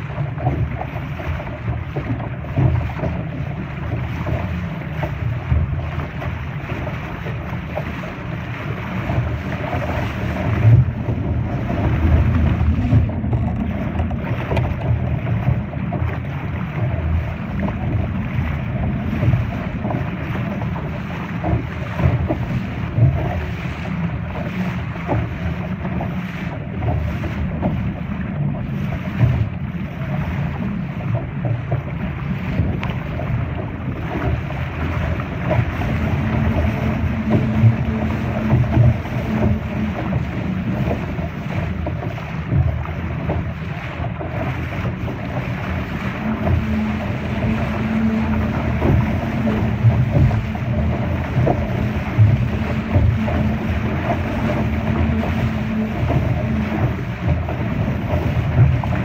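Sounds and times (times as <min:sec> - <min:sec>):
water rushing and splashing: 0:00.0 - 0:59.0
wind buffeting microphone: 0:00.0 - 0:59.0.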